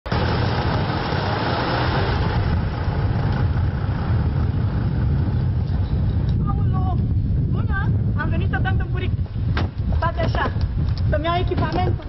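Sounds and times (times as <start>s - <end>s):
car engine and tyres running: 0.0s - 12.0s
deep low rumble: 0.1s - 12.0s.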